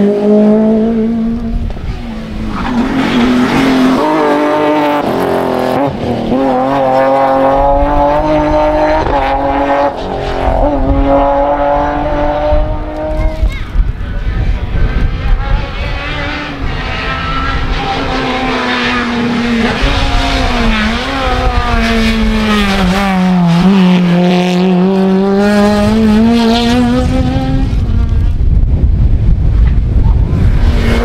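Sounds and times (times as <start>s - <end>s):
car engine revving high: 0.0s - 13.4s, 14.5s - 28.4s, 30.2s - 31.0s.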